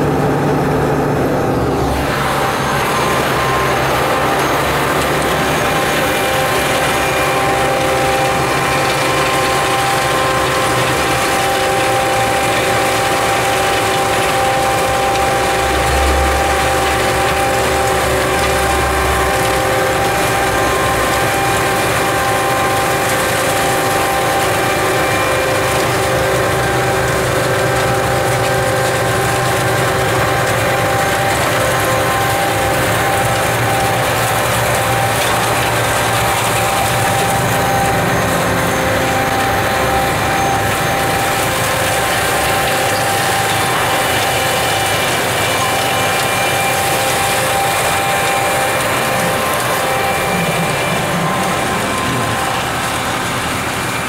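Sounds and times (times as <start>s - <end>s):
snow blower machinery whining: 0.0s - 54.0s.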